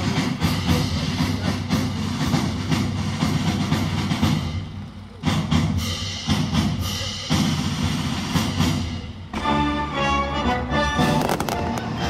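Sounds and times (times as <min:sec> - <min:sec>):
drum strokes: 0:00.0 - 0:10.2, 0:10.8 - 0:12.0
orchestra music with percussion: 0:00.0 - 0:12.0.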